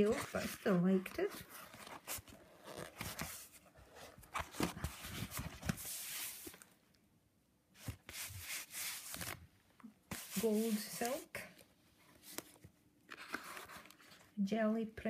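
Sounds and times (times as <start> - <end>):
pages rustling: 0.0 - 6.8, 7.8 - 9.5, 10.1 - 14.3.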